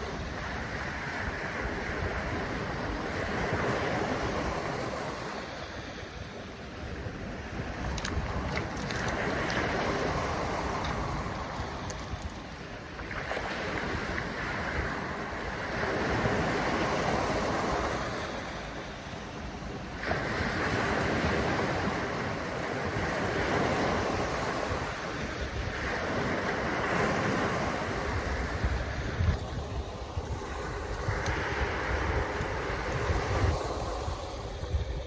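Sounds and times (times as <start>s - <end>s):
wind buffeting the microphone: 0.0s - 35.0s.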